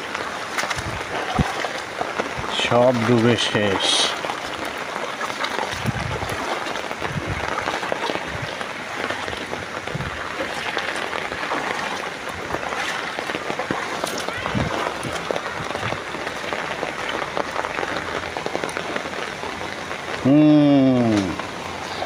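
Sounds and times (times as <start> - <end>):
heavy rain on water: 0.0 - 22.0.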